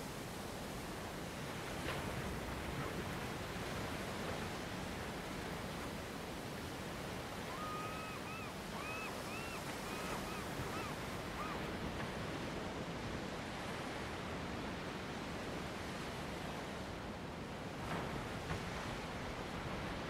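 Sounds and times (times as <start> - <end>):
sea surf against rocks: 0.0 - 20.0.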